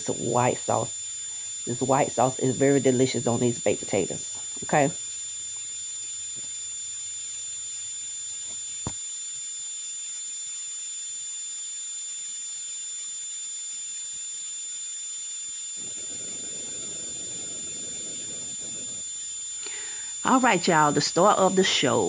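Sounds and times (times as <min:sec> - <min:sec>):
high-pitched whine with hiss: 0:00.0 - 0:22.0.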